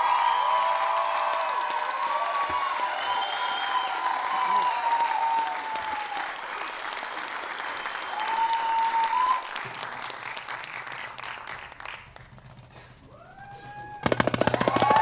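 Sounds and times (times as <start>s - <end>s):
audience applauding: 0.0s - 12.5s, 13.1s - 15.0s.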